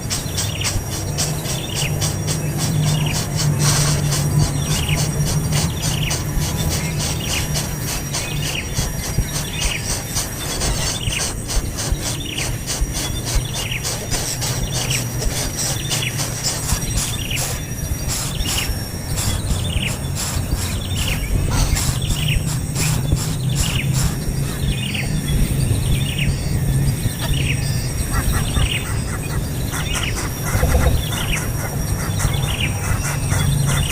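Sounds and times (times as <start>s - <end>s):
low hum: 0.0s - 33.9s
young bird chirping: 0.0s - 33.9s.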